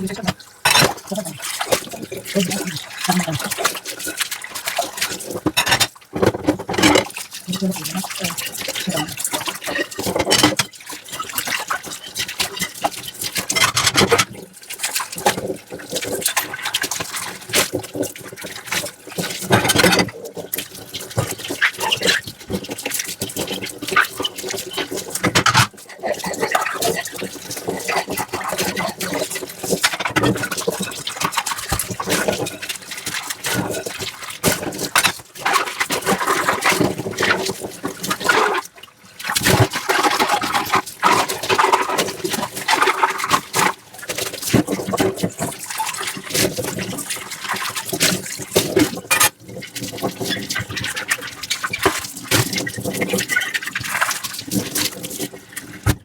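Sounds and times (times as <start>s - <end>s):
sponge scrubbing dishes: 0.0s - 56.0s
water sloshing and trickling: 0.0s - 56.0s.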